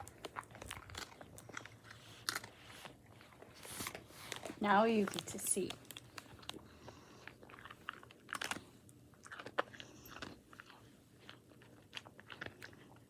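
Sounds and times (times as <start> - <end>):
dog crunching a hard treat: 0.0 - 13.0.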